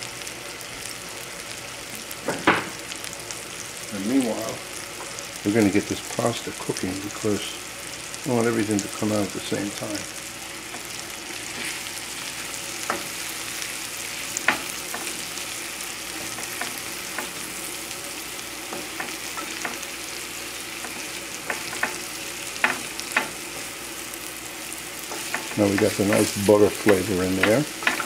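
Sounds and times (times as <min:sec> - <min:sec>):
food sizzling in a skillet: 0:00.0 - 0:28.0.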